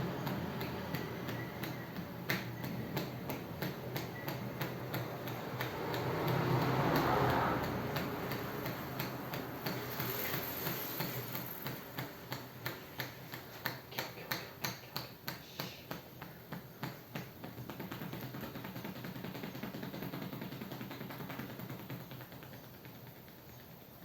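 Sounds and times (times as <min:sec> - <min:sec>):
hands tapping on a head: 0:00.1 - 0:24.0.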